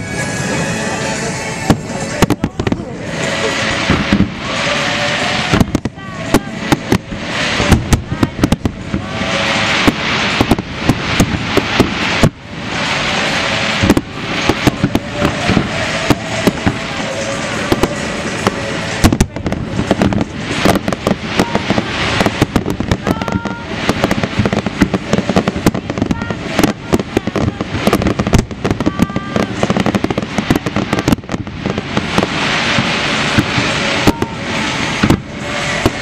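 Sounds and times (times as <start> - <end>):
fireworks bangs: 0.0 - 36.0
fireworks crackling: 0.0 - 36.0.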